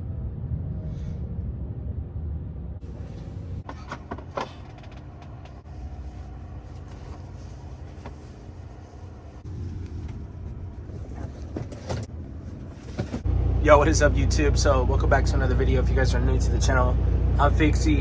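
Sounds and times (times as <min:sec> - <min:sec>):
truck engine idling: 0:02.8 - 0:18.0.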